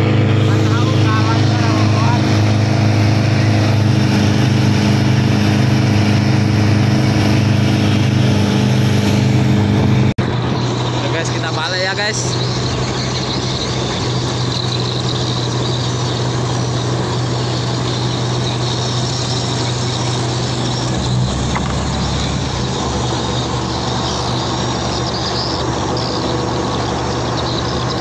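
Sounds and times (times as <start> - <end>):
motorboat engine humming: 0.0 - 28.0.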